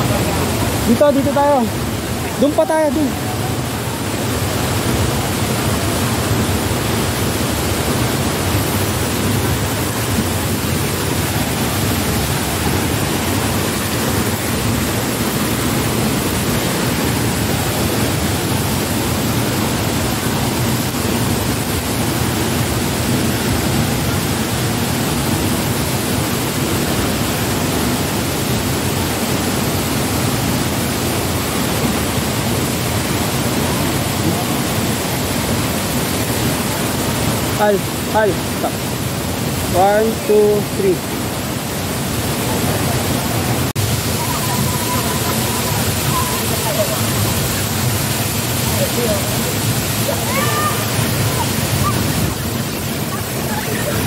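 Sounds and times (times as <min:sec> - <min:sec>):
waterfall and river rushing over rocks: 0:00.0 - 0:54.0.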